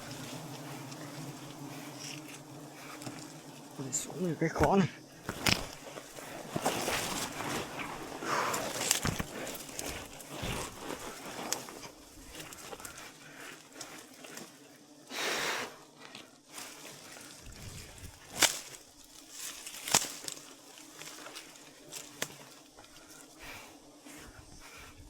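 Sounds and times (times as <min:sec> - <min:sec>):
branches cracking: 0:00.0 - 0:14.6, 0:16.5 - 0:23.5
leaves and twigs rustling: 0:00.0 - 0:15.0, 0:15.8 - 0:25.0.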